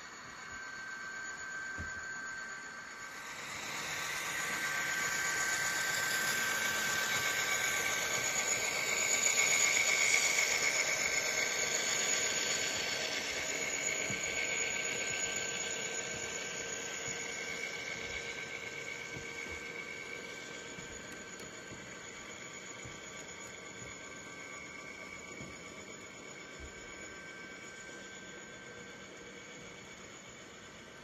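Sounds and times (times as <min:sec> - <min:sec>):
model train whirring on track: 0:00.0 - 0:31.0.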